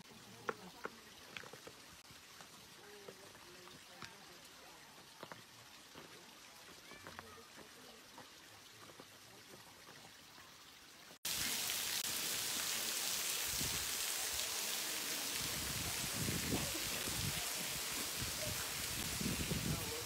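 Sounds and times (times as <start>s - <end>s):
rushing water hiss: 0.0s - 20.0s.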